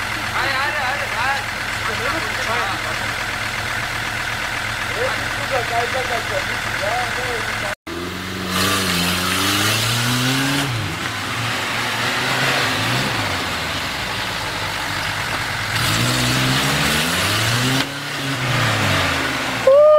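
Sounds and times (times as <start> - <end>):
vehicle engine revving: 0.0 - 19.9.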